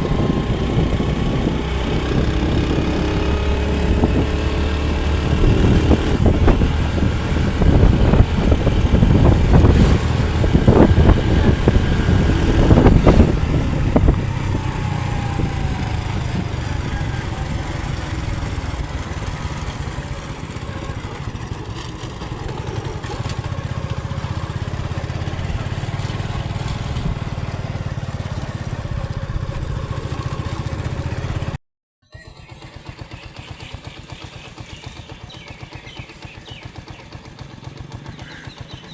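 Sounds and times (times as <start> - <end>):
motorcycle engine running: 0.0 - 31.6, 32.2 - 38.9.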